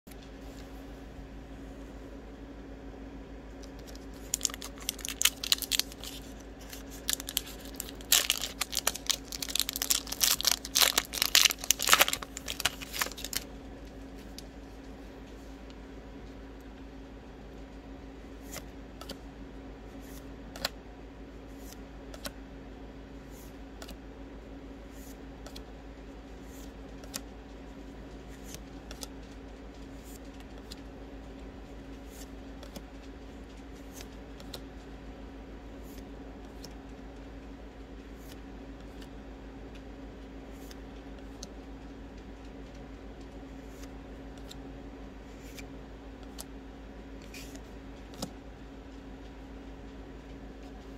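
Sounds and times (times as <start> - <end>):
steady low hum: 0.1 - 50.9.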